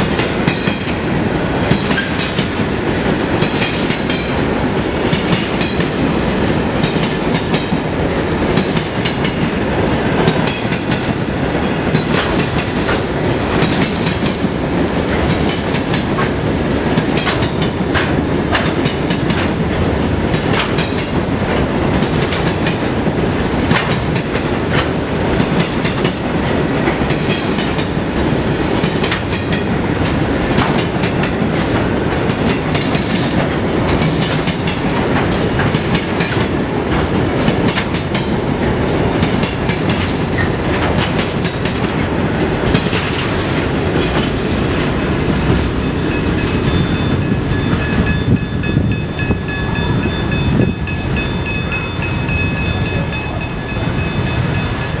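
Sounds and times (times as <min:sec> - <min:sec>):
train wheels clattering over joints: 0:00.0 - 0:49.4.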